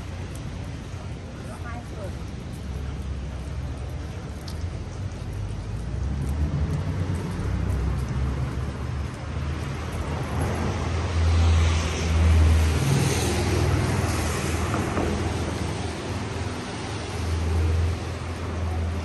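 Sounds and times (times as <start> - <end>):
traffic rumble: 0.0 - 19.0
tyres hissing on wet road: 0.0 - 19.0.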